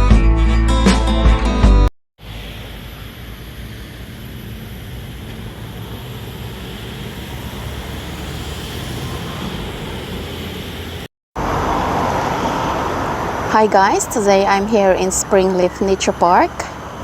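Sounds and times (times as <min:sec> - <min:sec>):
vehicle rumble: 0:02.2 - 0:17.0.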